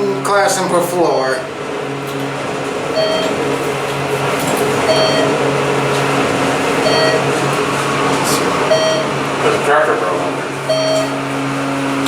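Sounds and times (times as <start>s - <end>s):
elevator hum: 0.0s - 12.0s.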